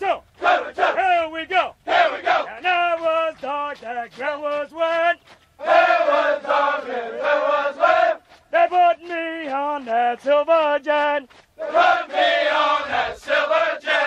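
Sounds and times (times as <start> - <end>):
man calling marching cadence: 0.0 - 14.0
group of men singing response: 1.9 - 14.0.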